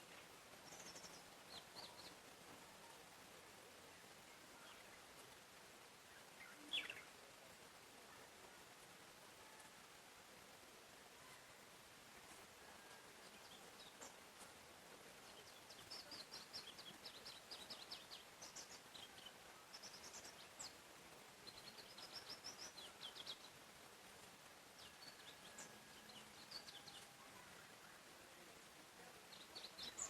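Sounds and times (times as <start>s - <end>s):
birds chirping: 0.0s - 30.0s
steady background hiss: 0.0s - 30.0s.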